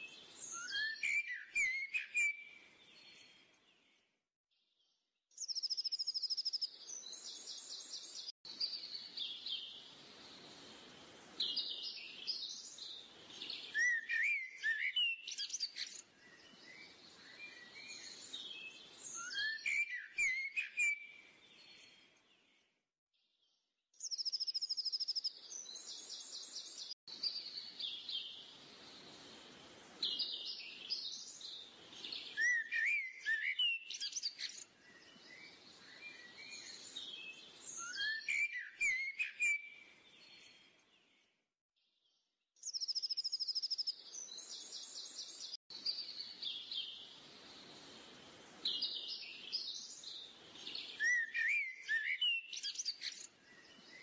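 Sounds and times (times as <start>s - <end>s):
small birds chirping and singing: 0.0s - 4.1s, 4.7s - 22.7s, 23.4s - 41.4s, 42.0s - 54.0s.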